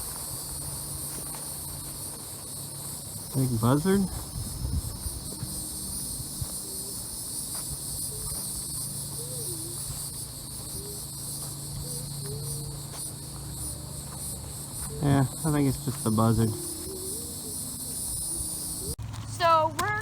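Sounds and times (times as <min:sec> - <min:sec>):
insects chirping shrill buzz: 0:00.0 - 0:20.0.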